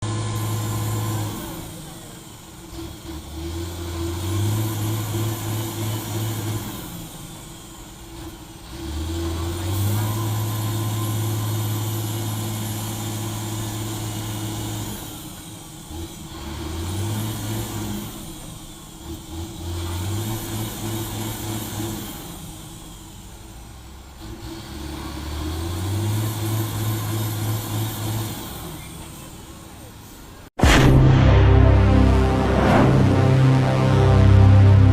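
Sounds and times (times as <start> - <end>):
truck engine labouring: 0.0 - 30.1.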